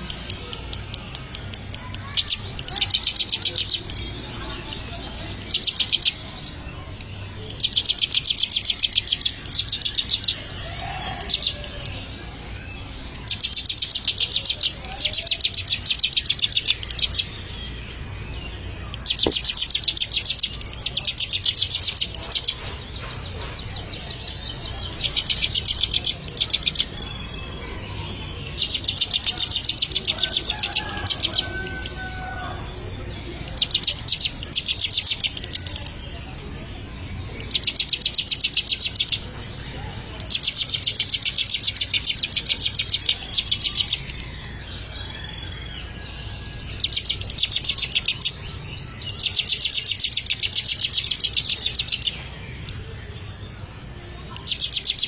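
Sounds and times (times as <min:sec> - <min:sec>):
bird high-pitched trill: 0:00.0 - 0:53.2.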